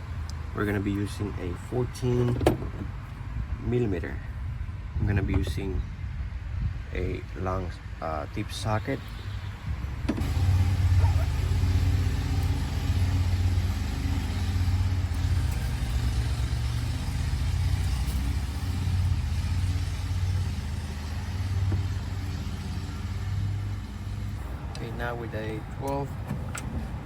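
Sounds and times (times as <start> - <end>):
vehicle engine humming: 0.0 - 6.5, 7.7 - 27.0.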